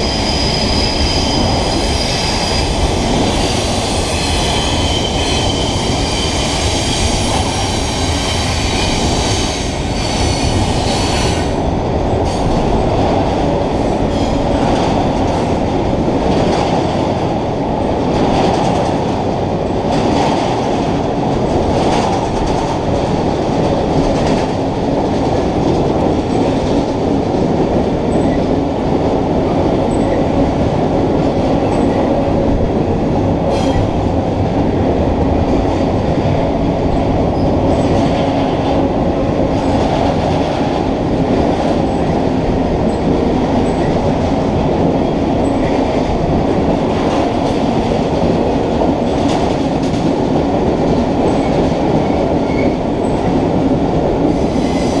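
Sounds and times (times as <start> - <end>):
freight train rumbling past: 0.0 - 55.0
wheels clacking on rail: 0.0 - 55.0.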